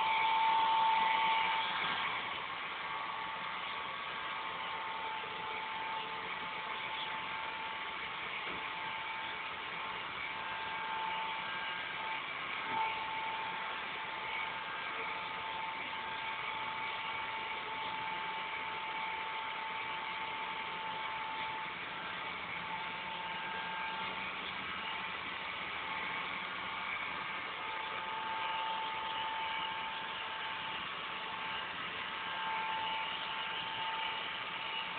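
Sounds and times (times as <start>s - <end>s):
robot vacuum cleaner whirring: 0.0s - 34.9s.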